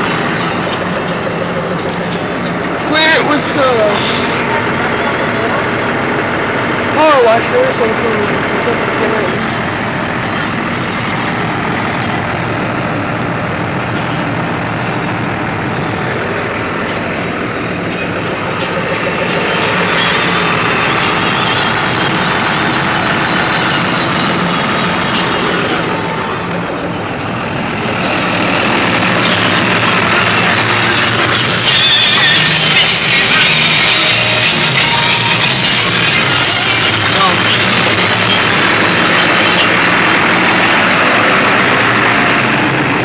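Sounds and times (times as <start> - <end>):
engine running: 0.0 - 43.0
loud rushing noise: 0.0 - 43.0.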